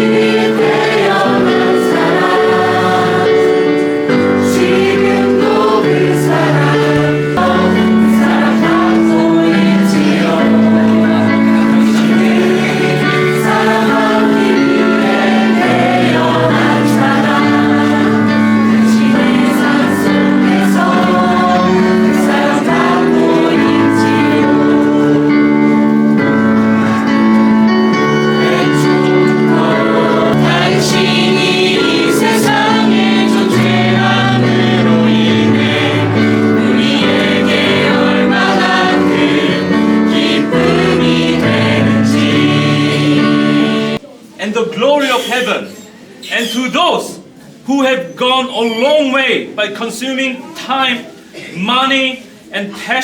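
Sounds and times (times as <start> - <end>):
group singing worship song: 0.0 - 44.0
instrumental accompaniment with bass: 0.0 - 44.0.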